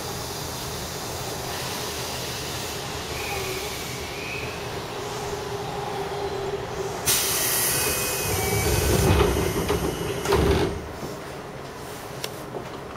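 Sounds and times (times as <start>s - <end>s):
air hiss: 0.0s - 11.2s
train hum: 0.0s - 12.9s.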